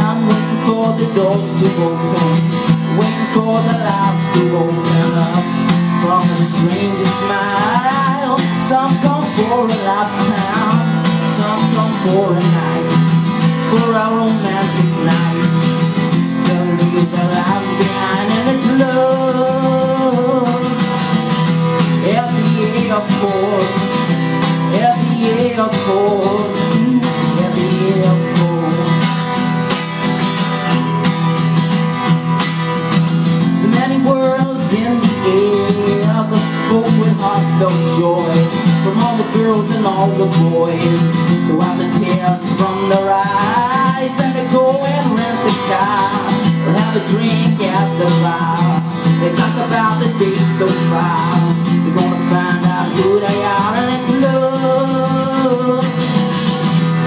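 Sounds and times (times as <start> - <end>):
man singing into a microphone: 0.0 - 29.7, 33.2 - 57.0
acoustic guitar strumming: 0.0 - 57.0.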